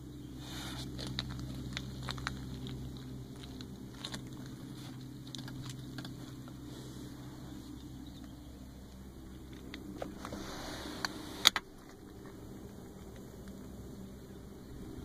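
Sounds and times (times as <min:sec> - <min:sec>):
low cabin hum: 0:00.0 - 0:15.0.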